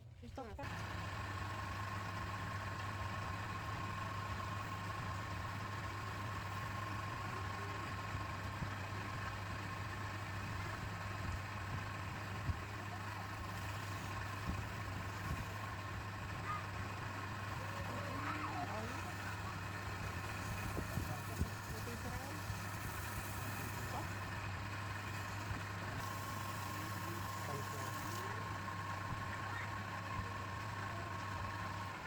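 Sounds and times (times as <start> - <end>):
lathe motor humming and whining: 0.6 - 32.0.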